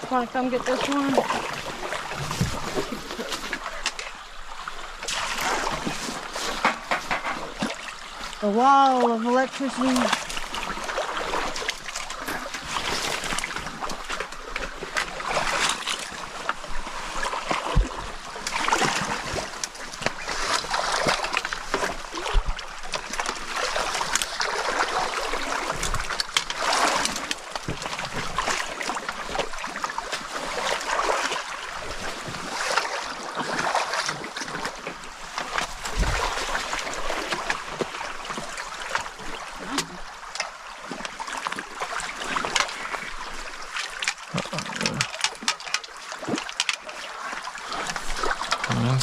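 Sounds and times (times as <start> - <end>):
running water: 0.0 - 49.0
water splashing as people wade: 0.0 - 49.0.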